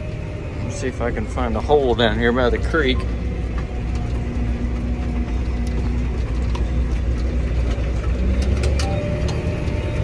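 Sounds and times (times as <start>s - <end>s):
machinery clicking and rattling: 0.0s - 10.0s
tractor diesel engine droning: 0.0s - 10.0s.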